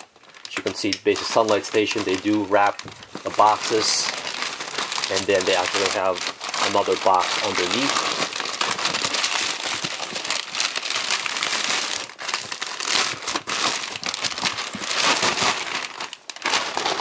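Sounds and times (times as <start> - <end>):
plastic mailer bag crinkling: 0.0 - 17.0.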